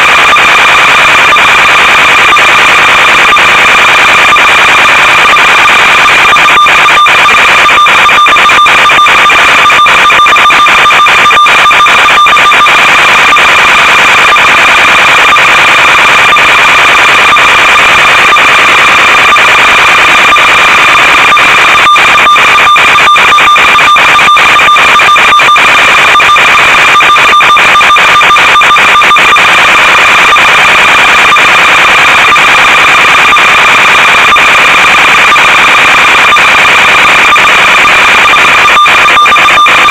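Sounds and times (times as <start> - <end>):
radio hiss with high buzzing tone: 0.0 - 39.9.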